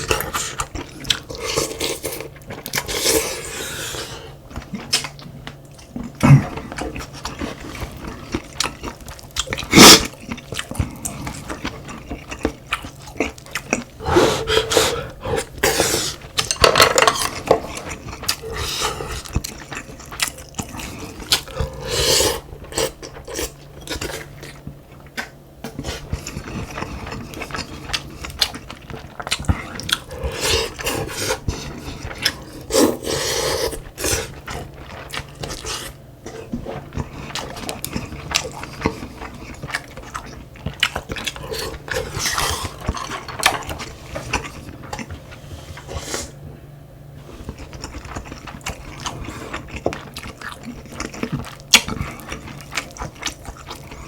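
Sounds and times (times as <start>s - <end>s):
chewing and biting: 4.5s - 45.9s, 47.2s - 54.0s.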